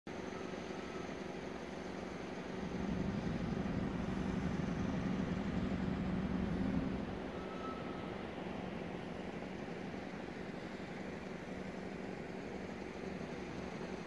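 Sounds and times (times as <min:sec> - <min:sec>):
vehicle engine and road rumble: 0:00.1 - 0:14.0
low hum: 0:00.7 - 0:14.0.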